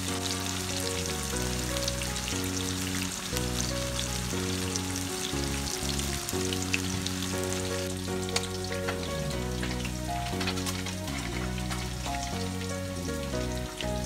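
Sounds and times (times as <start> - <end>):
background music: 0.0 - 14.0
fish deep-frying in oil: 0.0 - 14.0.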